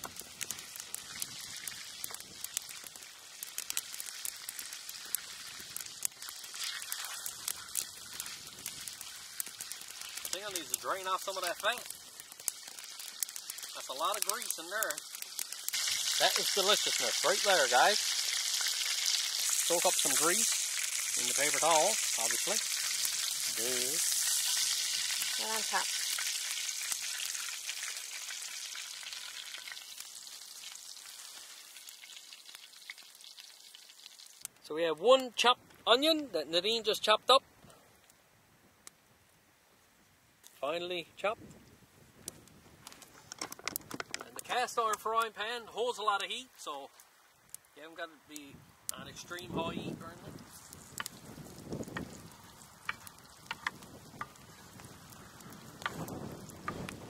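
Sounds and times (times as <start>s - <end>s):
grease popping: 0.0s - 35.4s, 41.4s - 47.8s, 48.4s - 57.0s
grease sizzling in a frying pan: 0.0s - 35.4s, 42.2s - 57.0s.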